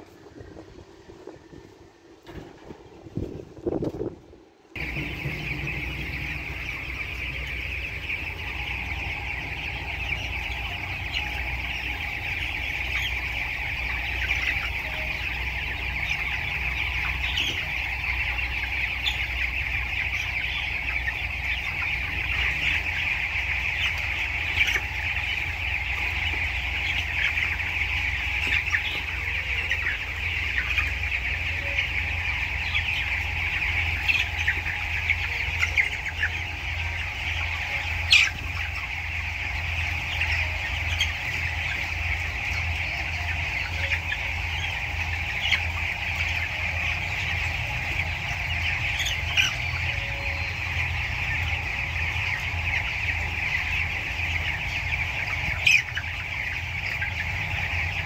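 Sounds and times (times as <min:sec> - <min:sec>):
chickens cheeping and clucking: 0:00.0 - 0:58.0
low steady hum: 0:00.0 - 0:58.0.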